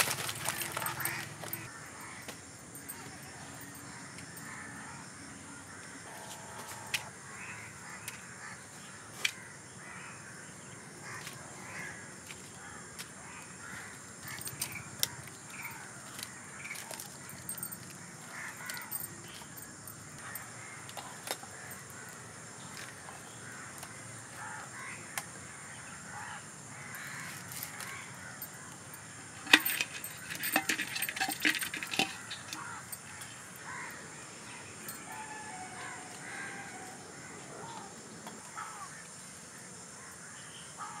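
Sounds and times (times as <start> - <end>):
birds calling: 0.0 - 39.1.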